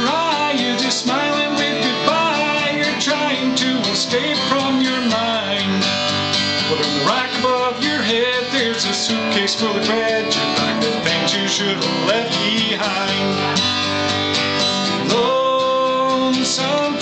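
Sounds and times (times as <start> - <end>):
man singing: 0.0 - 14.0, 14.8 - 17.0
acoustic guitar strumming: 0.0 - 17.0.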